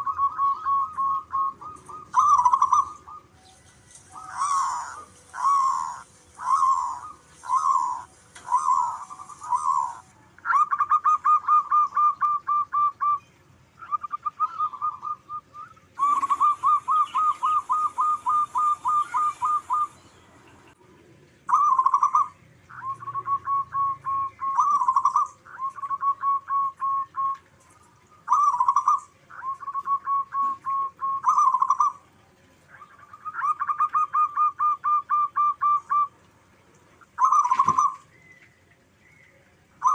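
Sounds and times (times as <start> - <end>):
doves cooing: 0.0 - 13.2, 13.8 - 39.9.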